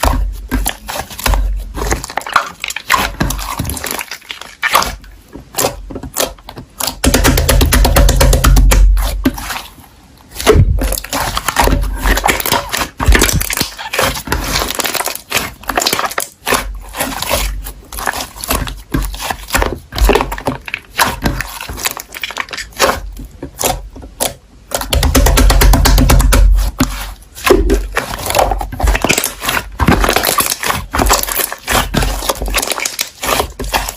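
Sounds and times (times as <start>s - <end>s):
slime squished by hand: 0.0s - 33.9s.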